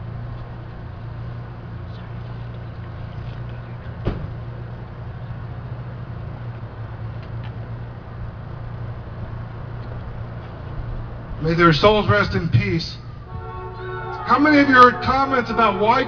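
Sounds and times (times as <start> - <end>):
generator engine humming: 0.0 - 16.0.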